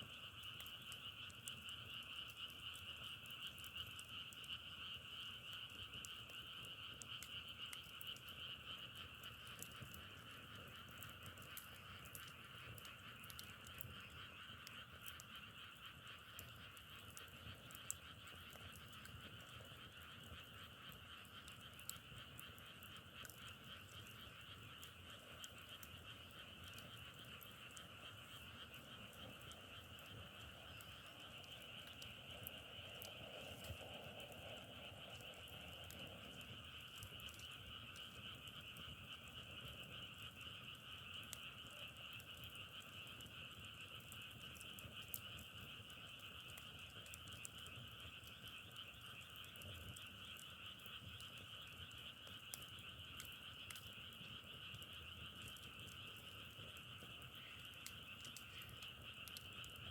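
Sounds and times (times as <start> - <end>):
frogs calling: 0.0 - 59.9
faint clicks: 0.2 - 59.9.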